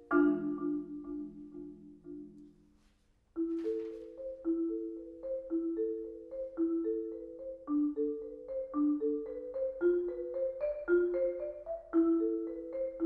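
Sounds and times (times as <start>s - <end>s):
marimba: 0.0s - 13.0s.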